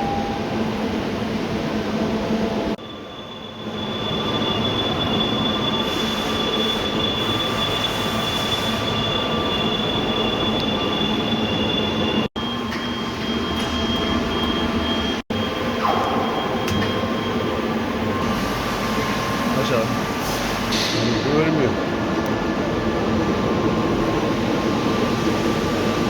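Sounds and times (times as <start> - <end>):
machinery running with high whine: 0.0 - 26.0.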